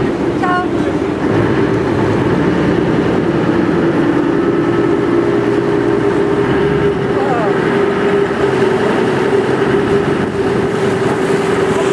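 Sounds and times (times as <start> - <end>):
boat engine droning: 0.0 - 11.9.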